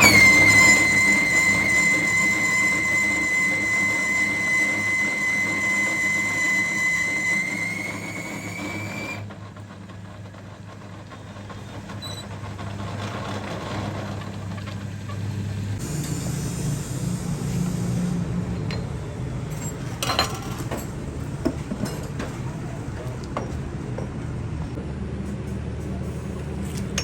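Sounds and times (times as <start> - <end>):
workshop machine whining: 0.0 - 27.0.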